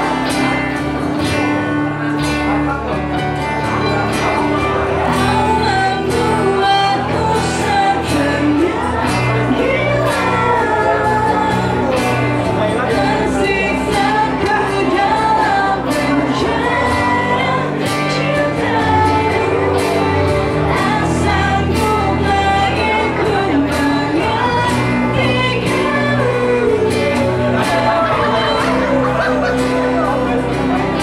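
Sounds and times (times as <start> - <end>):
bass guitar: 0.0 - 31.0
electric guitars: 0.0 - 31.0
keyboard: 0.0 - 31.0
woman singing: 5.0 - 31.0.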